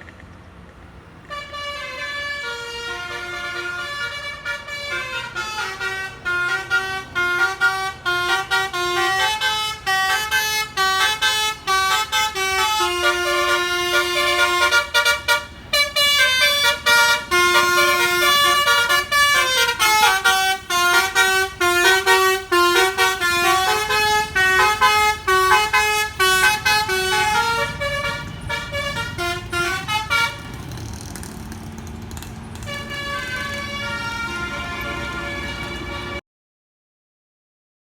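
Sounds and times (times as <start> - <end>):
low rumble of bus engine: 0.0 - 36.2
bus horn playing a fast melody: 1.2 - 30.7, 32.6 - 36.2.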